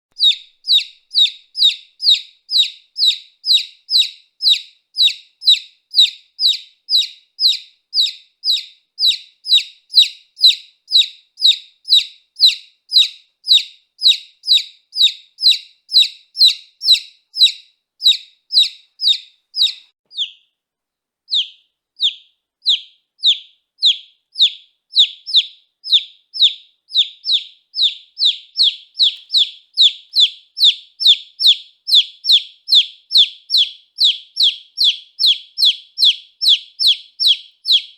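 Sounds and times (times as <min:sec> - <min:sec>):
baby chick peeping: 0:00.1 - 0:20.6, 0:21.3 - 0:37.9.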